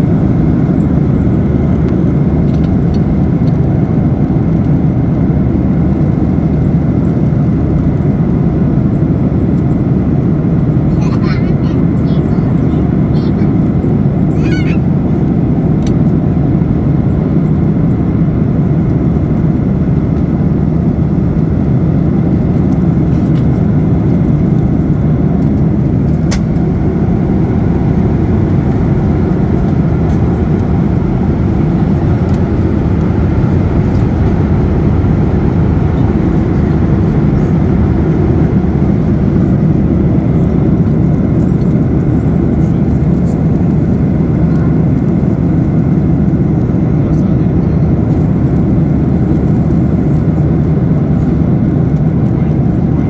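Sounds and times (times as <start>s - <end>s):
airplane cabin engine roar: 0.0s - 53.0s.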